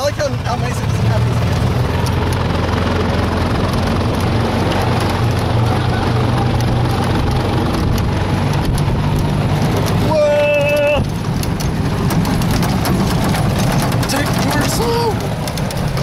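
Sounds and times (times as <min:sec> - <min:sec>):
golf cart motor droning: 0:00.8 - 0:16.0.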